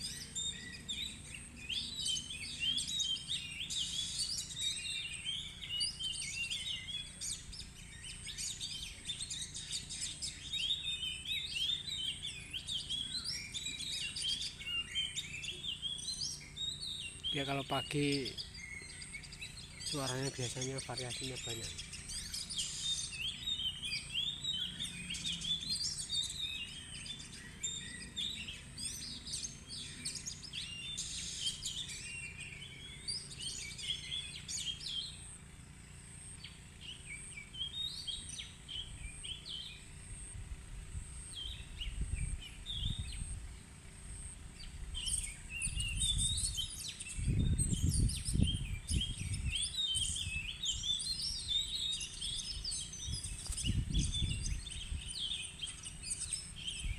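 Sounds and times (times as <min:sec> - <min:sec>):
bird singing whistled phrases: 0:00.0 - 0:35.2, 0:45.0 - 0:56.9.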